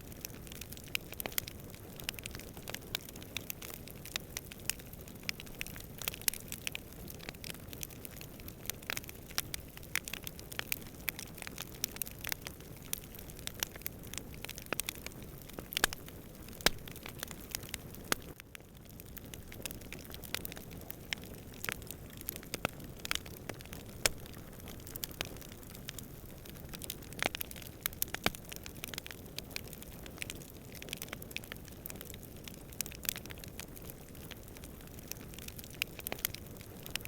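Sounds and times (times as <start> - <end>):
campfire crackling: 0.0 - 37.0
burning wood popping: 0.1 - 37.0.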